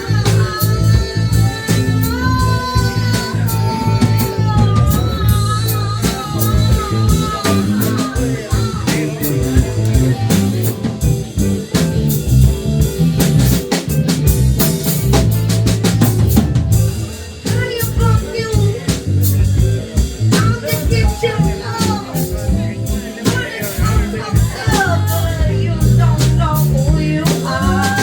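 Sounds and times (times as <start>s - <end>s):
bass guitar: 0.0s - 28.0s
drum kit: 0.0s - 28.0s
electric guitar: 0.0s - 28.0s.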